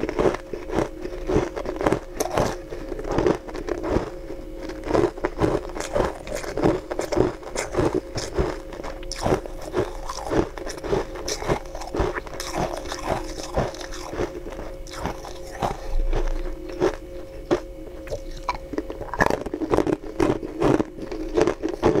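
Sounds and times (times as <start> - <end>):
ice crunching while chewed: 0.0 - 22.0.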